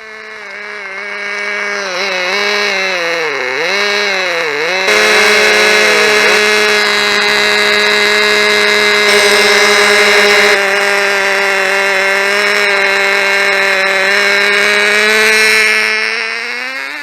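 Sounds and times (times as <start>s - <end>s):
model car engine buzzing: 0.0s - 17.0s.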